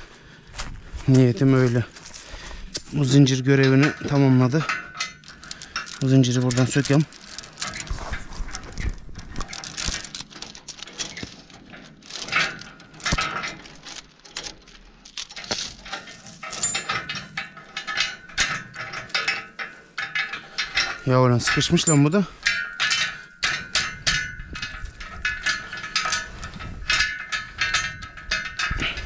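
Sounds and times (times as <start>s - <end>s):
metal chain clinking and rattling: 2.7s - 29.0s.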